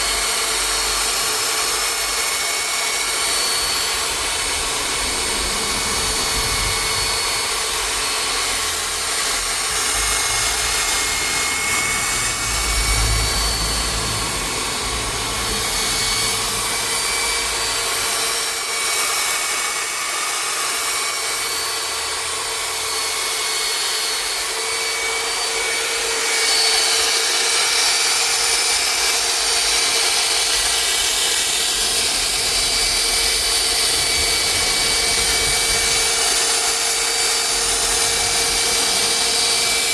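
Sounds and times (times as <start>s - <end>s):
power sander whining: 0.0s - 39.9s.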